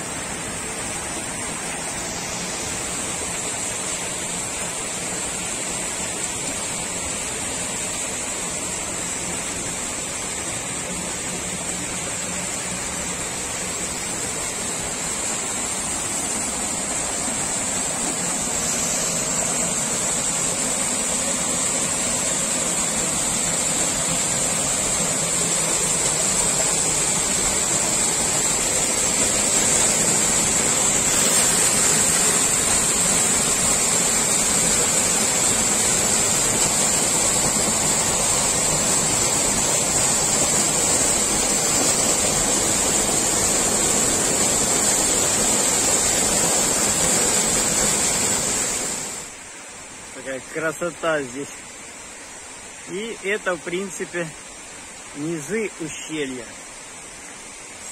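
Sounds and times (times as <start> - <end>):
waterfall pouring into pool: 0.0 - 57.9.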